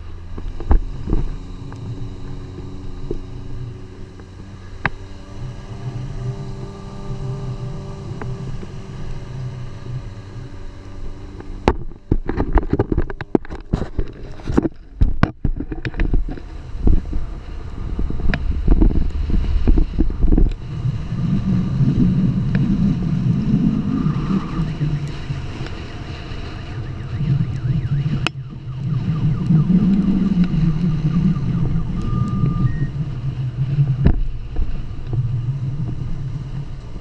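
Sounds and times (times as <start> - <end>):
off-road vehicle engine running: 0.0 - 37.0
wind on microphone: 0.0 - 37.0.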